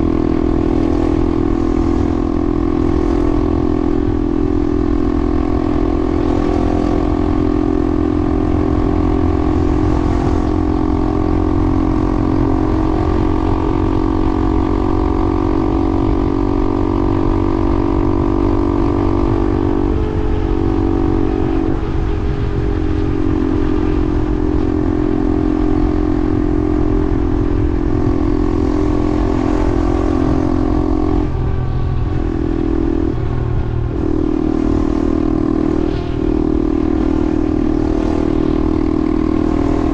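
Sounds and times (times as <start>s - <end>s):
vehicle motor hum: 0.0s - 39.9s
wind and road noise rumble: 0.0s - 39.9s.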